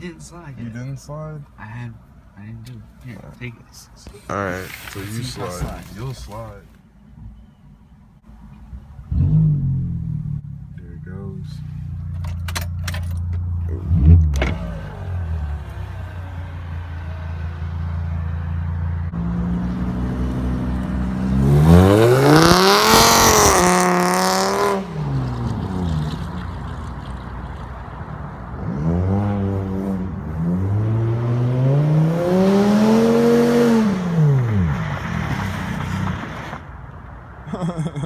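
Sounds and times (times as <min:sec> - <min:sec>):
car engine revving: 0:04.0 - 0:06.8, 0:08.3 - 0:37.0.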